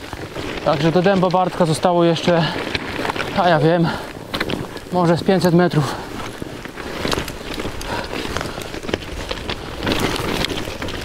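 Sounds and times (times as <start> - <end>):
bike tyres crunching through snow: 0.0 - 11.0.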